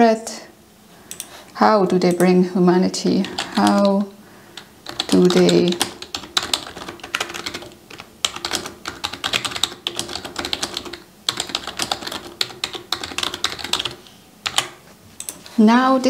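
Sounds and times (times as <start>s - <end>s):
typing on computer keyboard: 1.1s - 2.3s, 3.2s - 15.5s.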